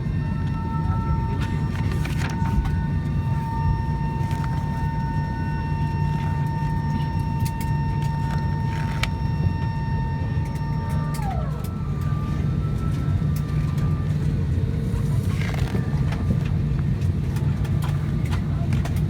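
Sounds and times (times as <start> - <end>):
aircraft cabin rumble: 0.0 - 19.0.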